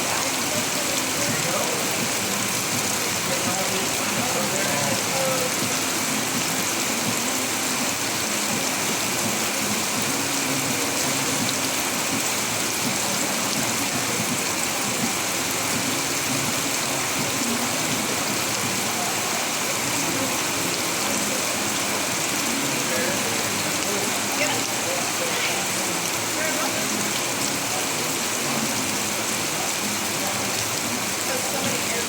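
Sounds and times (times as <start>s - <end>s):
rain falling steadily: 0.0s - 32.0s.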